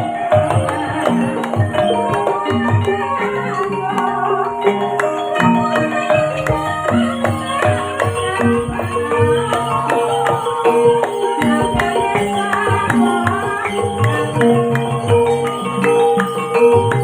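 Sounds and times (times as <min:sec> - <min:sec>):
hand-drum beats: 0:00.0 - 0:17.0
tuned percussion ringing notes: 0:00.0 - 0:17.0.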